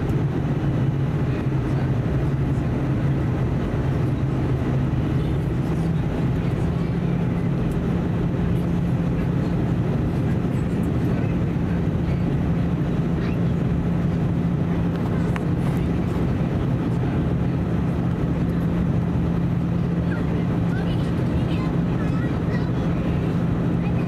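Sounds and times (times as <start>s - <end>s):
cabin engine hum: 0.0s - 24.0s.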